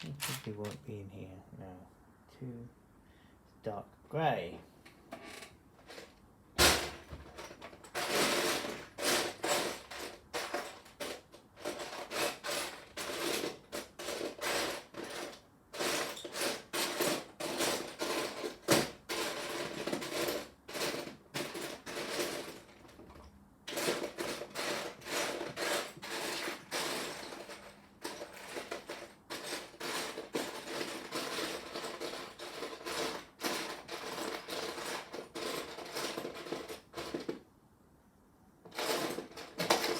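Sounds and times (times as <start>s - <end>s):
plastic toy bricks clattering: 0.0s - 0.8s, 6.7s - 23.0s, 23.7s - 37.4s, 38.7s - 39.9s.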